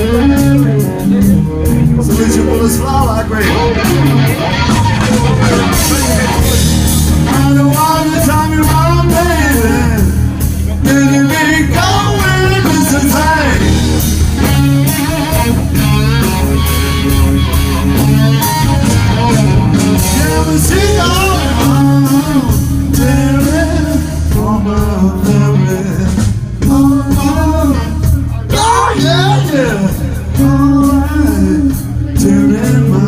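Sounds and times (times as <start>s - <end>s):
bass guitar: 0.0s - 33.0s
drums: 0.0s - 33.0s
electric guitar lead: 0.0s - 33.0s.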